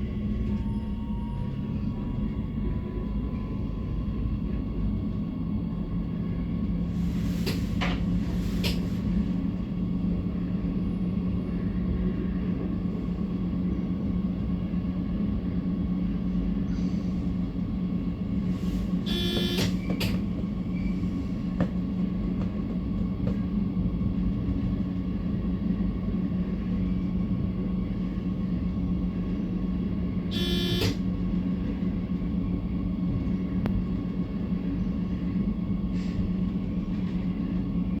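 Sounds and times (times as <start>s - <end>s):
train humming and rumbling: 0.0s - 38.0s.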